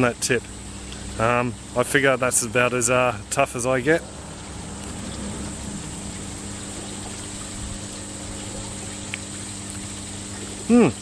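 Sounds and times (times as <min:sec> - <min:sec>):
water pump humming: 0:00.0 - 0:11.0
water trickling: 0:00.0 - 0:11.0.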